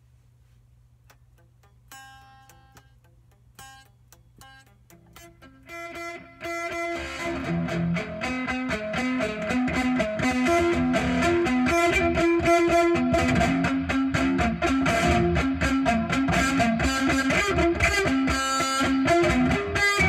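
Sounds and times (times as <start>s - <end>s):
electric guitar melody: 1.7s - 20.0s.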